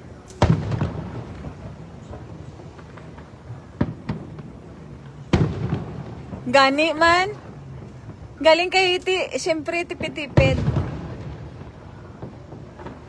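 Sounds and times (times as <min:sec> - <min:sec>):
fireworks booming: 0:00.0 - 0:13.0
fireworks cracks: 0:00.0 - 0:13.0.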